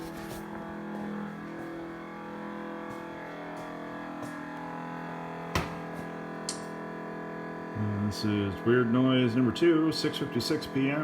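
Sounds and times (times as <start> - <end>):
refrigerator humming: 0.0 - 11.0.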